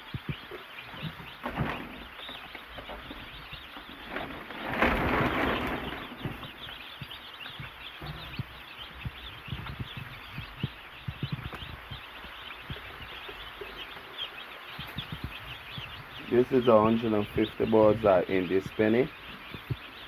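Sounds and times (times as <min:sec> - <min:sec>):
baby chicks peeping: 0:00.0 - 0:20.0
low thumps: 0:00.0 - 0:20.0
rustling noise: 0:00.2 - 0:18.0.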